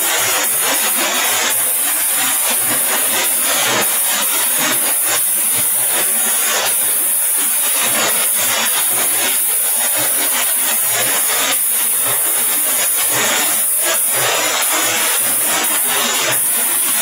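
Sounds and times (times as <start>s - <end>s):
polishing machine rushing hiss: 0.0s - 17.0s.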